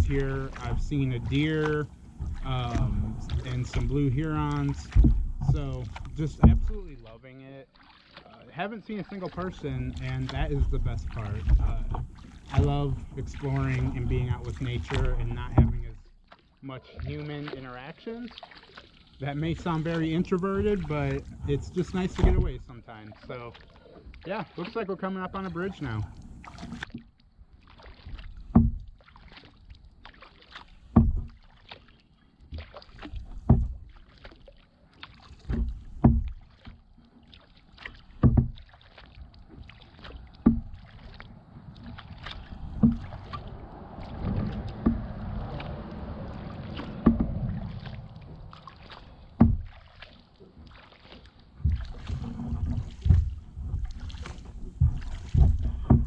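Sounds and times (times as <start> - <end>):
kayak paddle splashes: 0.0 - 56.0.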